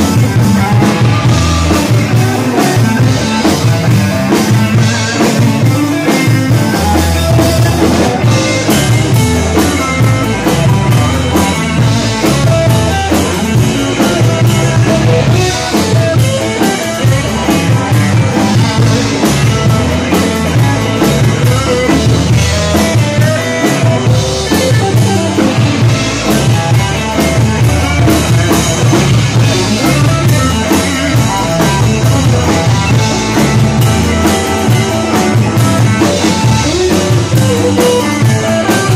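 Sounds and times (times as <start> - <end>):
distorted electric guitars: 0.0 - 38.9
driving drum beat: 0.0 - 38.9.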